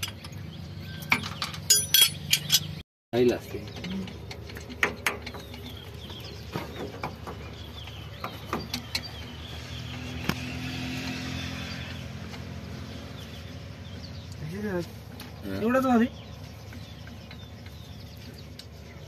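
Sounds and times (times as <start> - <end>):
low engine hum: 3.4 - 19.0.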